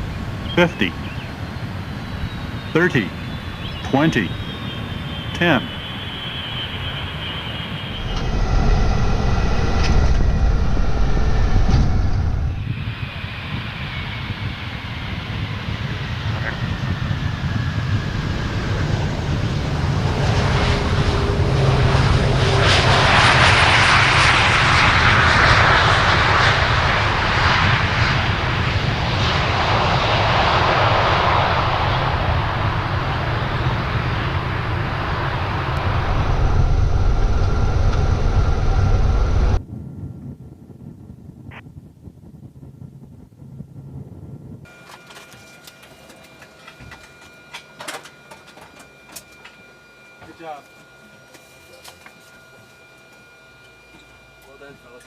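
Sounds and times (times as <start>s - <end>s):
jet rolling on runway: 0.0s - 51.2s.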